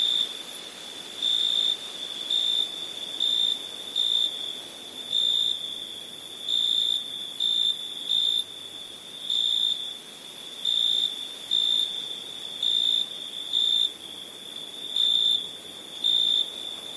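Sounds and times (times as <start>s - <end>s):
crickets chirping: 0.0s - 16.9s.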